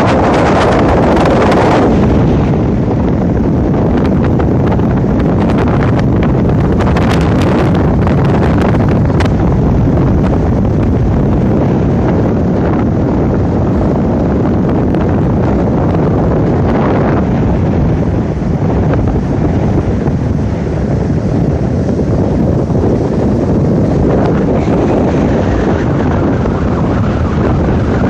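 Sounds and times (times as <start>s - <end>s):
ocean surf: 0.0s - 28.0s
wind buffeting microphone: 0.0s - 28.0s.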